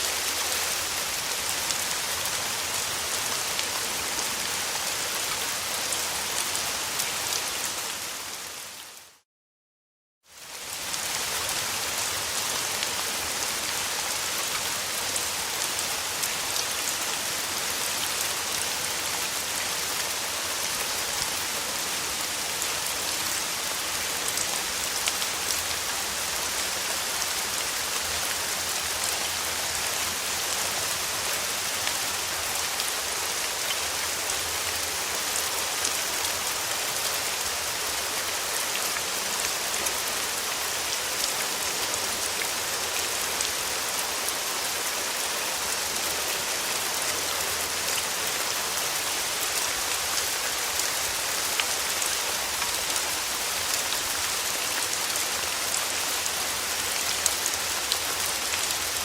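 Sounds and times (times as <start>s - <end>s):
rain falling: 0.0s - 9.2s, 10.3s - 59.0s.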